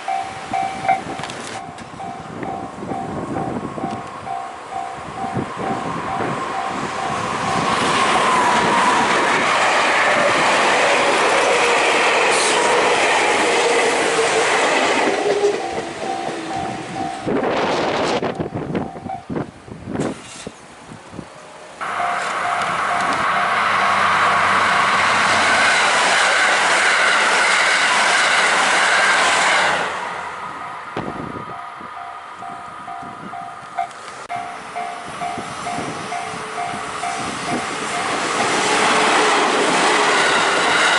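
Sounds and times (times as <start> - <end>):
electric train passing: 0.0 - 40.9.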